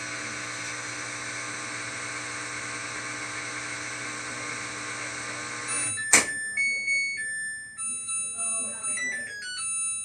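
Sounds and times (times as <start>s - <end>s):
washing machine spinning: 0.0s - 10.0s.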